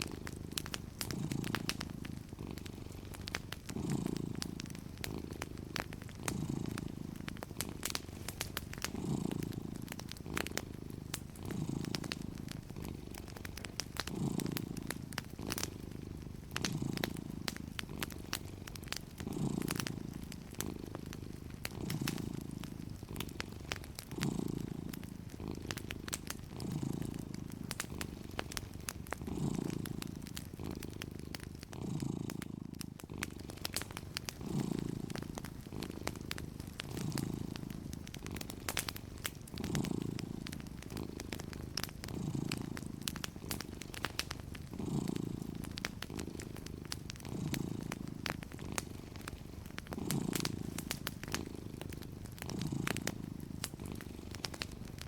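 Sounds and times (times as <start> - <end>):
cat purring: 0.0 - 55.0
wood fire crackles: 0.0 - 55.0.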